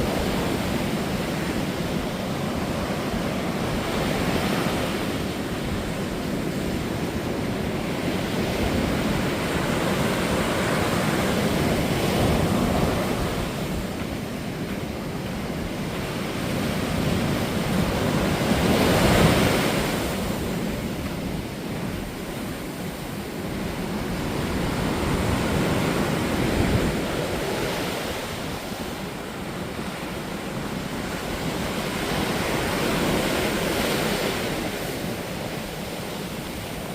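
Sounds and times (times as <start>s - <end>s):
sea waves breaking on beach: 0.0s - 36.9s
wind buffeting microphone: 0.0s - 36.9s.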